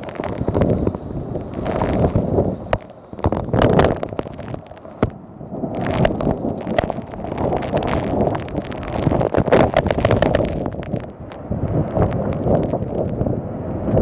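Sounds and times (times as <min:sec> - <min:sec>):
sharp pops and clicks: 0:00.0 - 0:13.3
wind gusting across microphone: 0:00.0 - 0:14.0.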